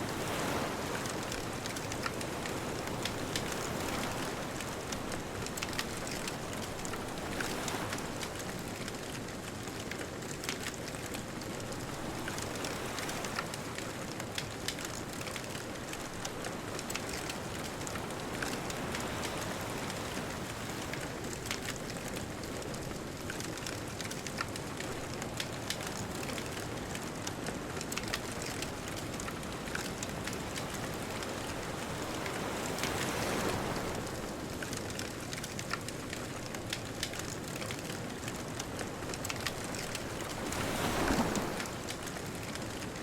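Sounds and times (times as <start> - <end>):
bonfire crackling and popping: 0.2 - 43.0.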